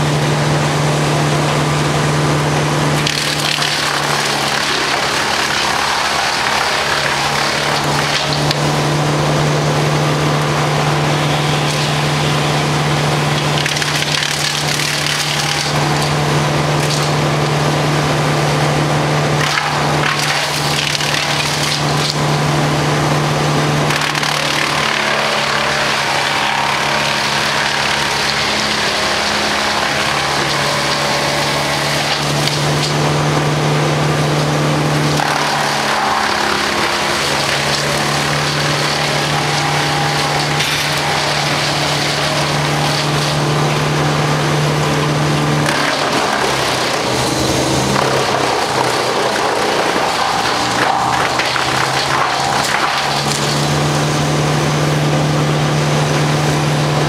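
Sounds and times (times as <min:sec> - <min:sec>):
wood chipper engine running: 0:00.0 - 0:57.0
branches cracking and splintering: 0:03.0 - 0:09.0, 0:10.3 - 0:17.7, 0:19.4 - 0:22.6, 0:23.8 - 0:54.3.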